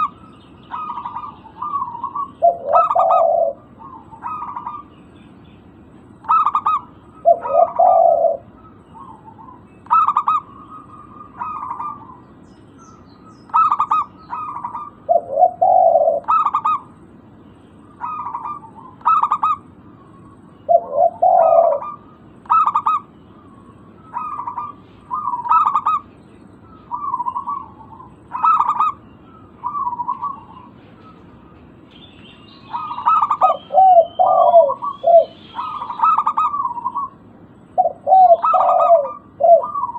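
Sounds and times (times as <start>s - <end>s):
dove cooing: 0.0s - 4.9s, 6.1s - 12.3s, 13.4s - 17.0s, 17.8s - 31.8s, 32.6s - 39.9s
bird twittering: 0.0s - 39.9s.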